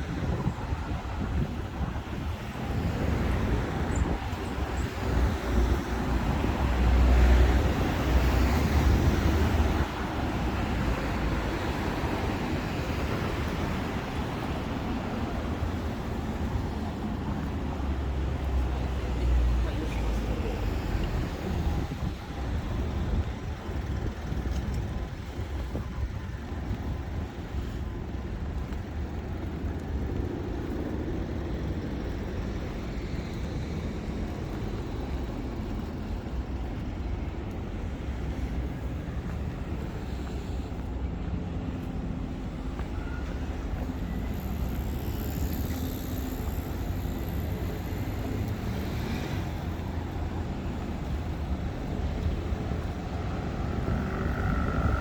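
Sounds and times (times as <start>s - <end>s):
road vehicles passing: 0.0s - 55.0s.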